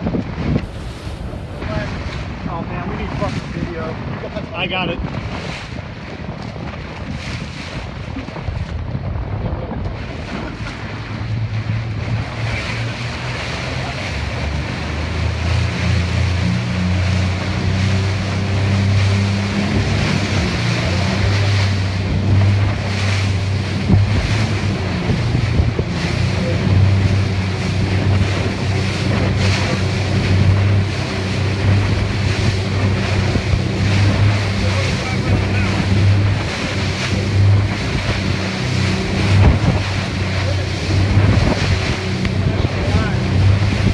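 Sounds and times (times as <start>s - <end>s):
boat engine drone: 0.0s - 43.9s
choppy sea water slapping: 0.0s - 43.9s
wind buffeting microphone: 0.0s - 43.9s.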